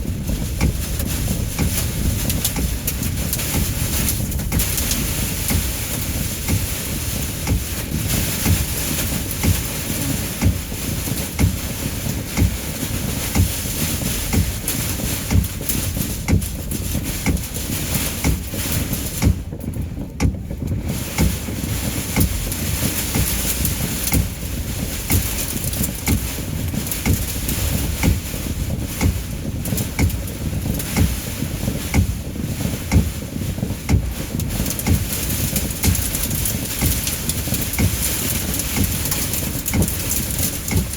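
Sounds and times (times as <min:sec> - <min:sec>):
heavy rain and hail on a car: 0:00.0 - 0:40.9
strong wind: 0:00.0 - 0:40.9.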